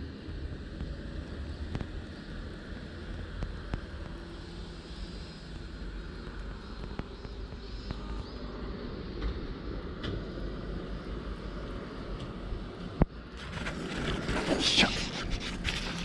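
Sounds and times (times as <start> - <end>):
distant road traffic rumble: 0.0 - 16.0.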